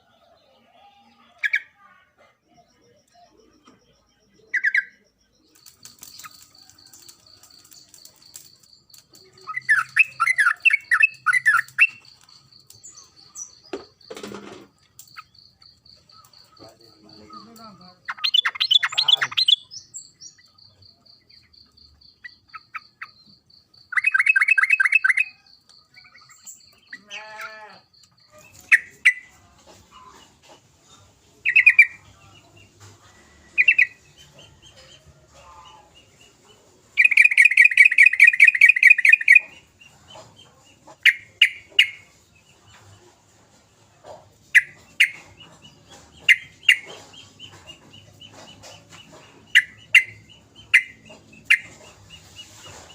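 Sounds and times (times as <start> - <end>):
bird chirping: 0.0 - 52.9
bird chattering trills: 2.5 - 29.4, 31.4 - 32.7, 33.5 - 42.5, 44.0 - 52.9.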